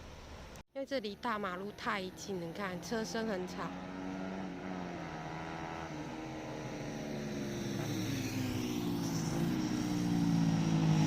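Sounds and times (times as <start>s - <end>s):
vehicle engine droning: 1.6s - 11.0s.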